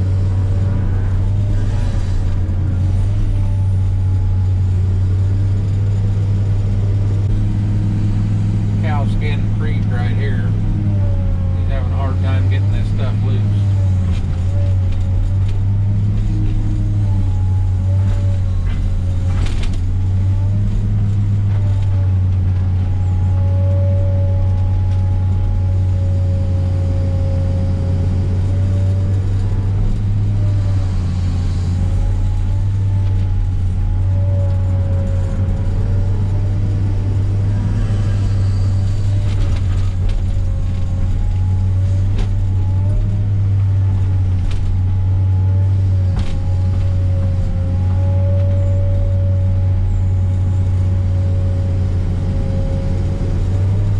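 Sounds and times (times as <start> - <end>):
excavator diesel engine running: 0.0 - 53.9
hydraulic whine: 0.0 - 53.9.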